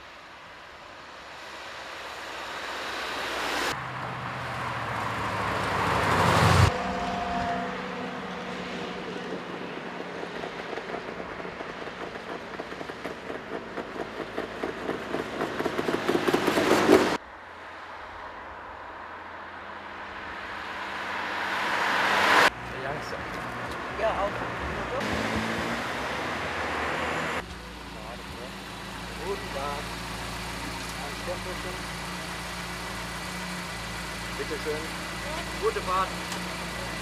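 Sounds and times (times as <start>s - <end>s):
cars driving past: 1.1s - 37.0s.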